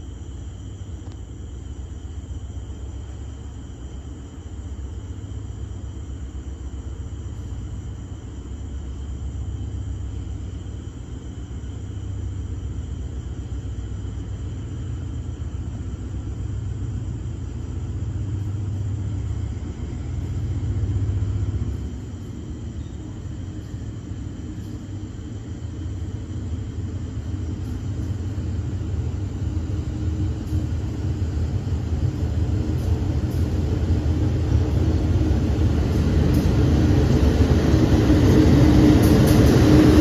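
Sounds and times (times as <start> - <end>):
diesel train rumble: 0.0 - 40.0
insects trilling: 0.0 - 40.0.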